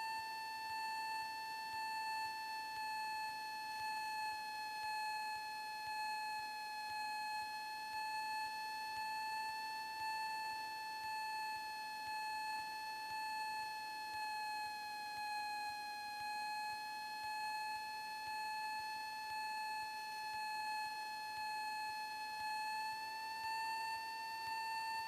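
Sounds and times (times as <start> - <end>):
high-pitched whine in headset: 2.3 - 25.0.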